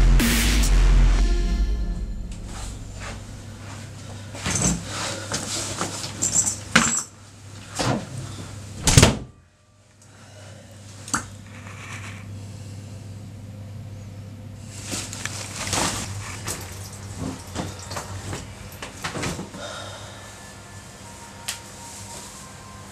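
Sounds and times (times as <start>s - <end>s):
low steady hum: 0.0s - 6.6s, 8.2s - 22.9s.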